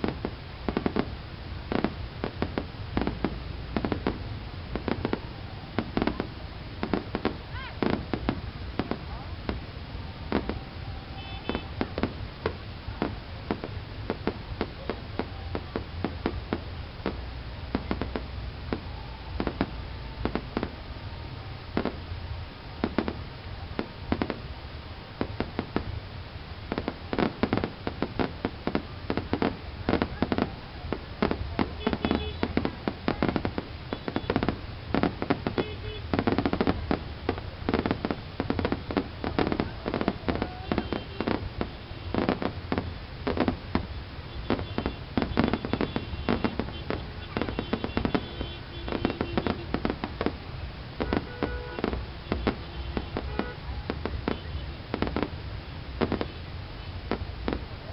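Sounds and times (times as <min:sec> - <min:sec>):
fireworks cracking and banging: 0:00.0 - 0:57.9.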